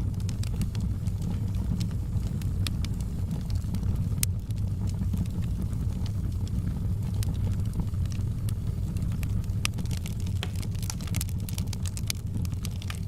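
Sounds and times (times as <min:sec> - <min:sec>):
fireplace fire crackling and popping: 0:00.0 - 0:13.0
low rumble: 0:00.0 - 0:13.0.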